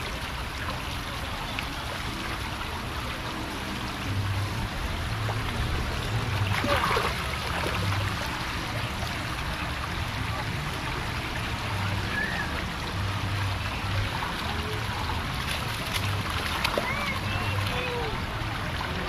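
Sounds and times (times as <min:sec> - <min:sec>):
fountain jets spraying water: 0:00.0 - 0:19.0.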